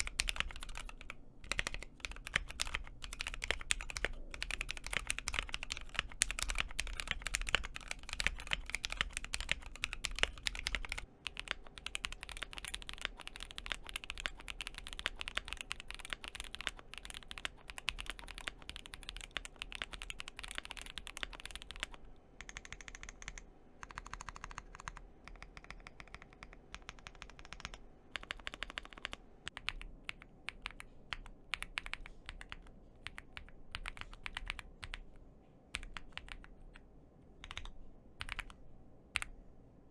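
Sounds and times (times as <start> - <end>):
mechanical keyboard typing: 0.0 - 35.1, 35.7 - 38.6, 39.2 - 39.4.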